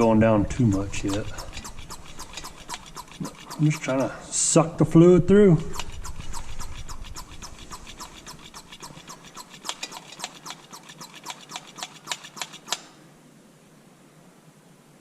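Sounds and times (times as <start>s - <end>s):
hand pump clicking rapidly: 0.0s - 13.0s.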